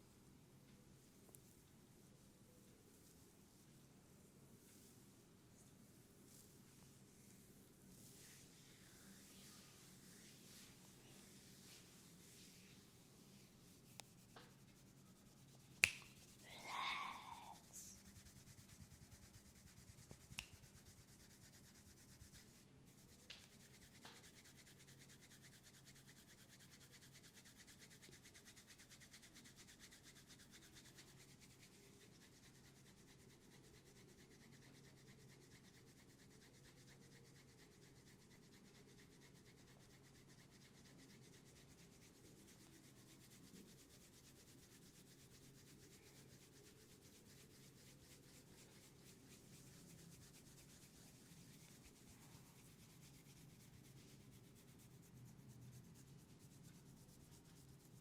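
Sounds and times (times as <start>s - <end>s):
hands rubbing oiled skin: 6.2s - 58.0s.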